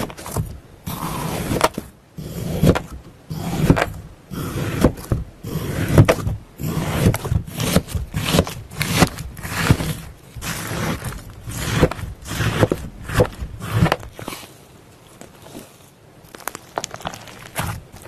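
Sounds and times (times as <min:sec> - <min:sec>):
knife slicing through slime: 0:00.0 - 0:14.6, 0:17.3 - 0:18.0.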